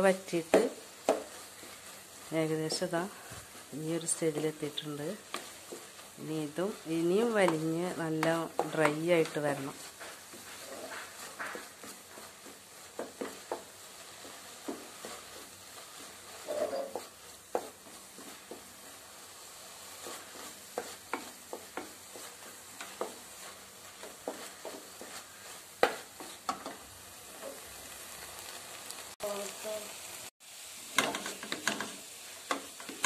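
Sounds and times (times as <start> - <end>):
spatula scraping frying pan: 0.0 - 28.8, 30.9 - 33.0
food sizzling: 0.0 - 33.0.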